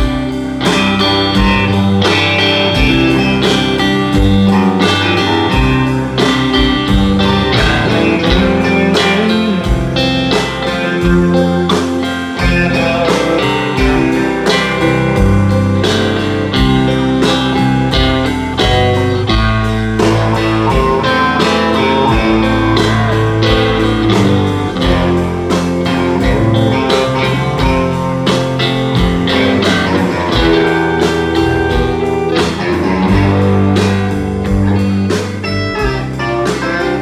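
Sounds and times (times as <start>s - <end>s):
bass guitar: 0.0s - 37.0s
electric guitar lead lines: 0.0s - 37.0s
rhythm electric guitar: 0.0s - 37.0s
steady drum beat: 0.0s - 37.0s.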